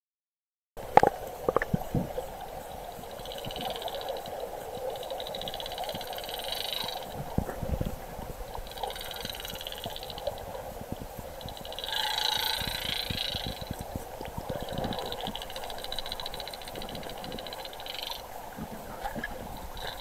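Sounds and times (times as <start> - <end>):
underwater clicks and knocks: 0.8 - 2.3, 4.9 - 20.0
muffled underwater hiss: 0.8 - 20.0.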